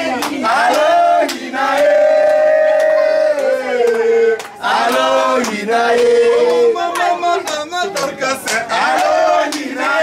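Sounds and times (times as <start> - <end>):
voices singing: 0.0 - 10.0.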